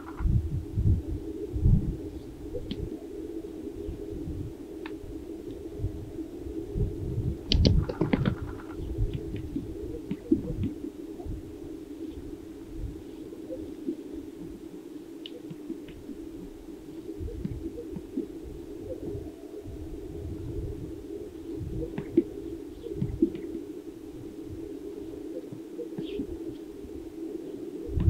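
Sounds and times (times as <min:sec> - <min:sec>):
distant grouse cooing and popping: 0:00.0 - 0:28.0
wind rumbling on microphone: 0:00.0 - 0:28.0.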